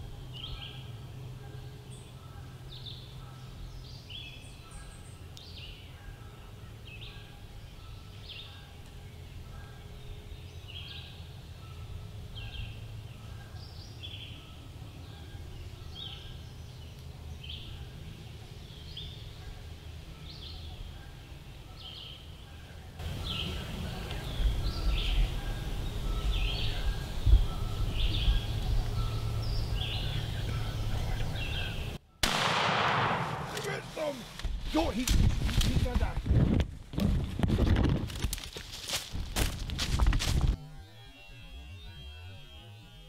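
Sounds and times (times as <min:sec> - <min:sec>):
songbird chirping: 0:00.0 - 0:36.2, 0:40.6 - 0:43.0.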